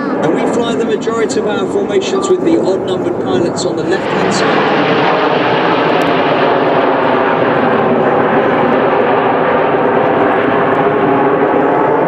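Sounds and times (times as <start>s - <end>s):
jet noise: 0.0s - 12.0s.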